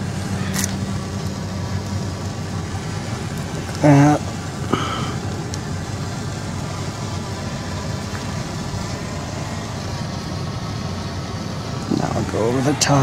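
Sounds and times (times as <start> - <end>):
engine idling: 0.0 - 13.0
faint hum: 0.0 - 13.0.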